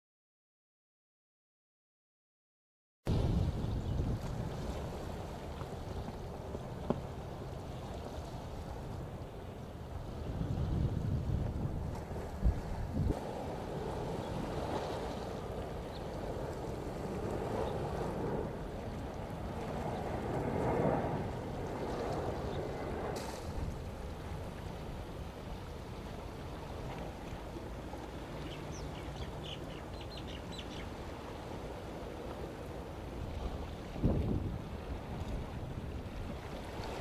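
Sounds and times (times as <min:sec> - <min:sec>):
water at shoreline: 0:03.1 - 0:37.0
wind: 0:03.1 - 0:37.0.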